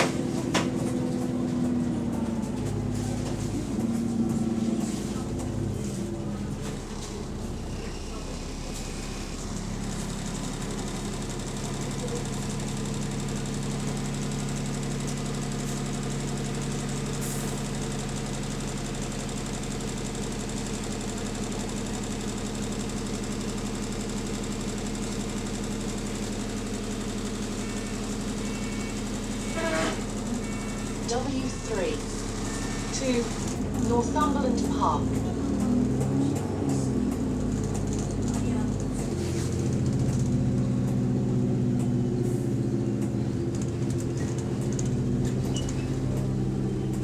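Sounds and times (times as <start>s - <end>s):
diesel bus engine idling: 0.0s - 47.0s.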